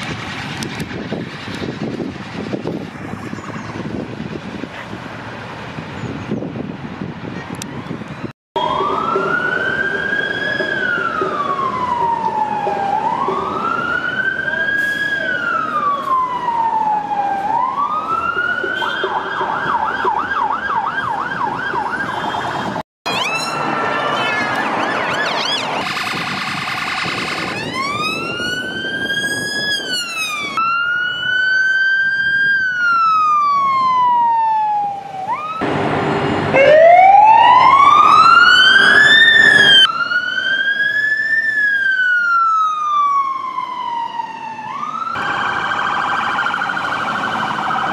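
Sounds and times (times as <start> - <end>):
emergency vehicle siren wailing: 7.0 - 47.9
siren warbling: 8.6 - 22.2, 23.1 - 47.9
siren yelping: 8.6 - 35.7, 36.5 - 47.9.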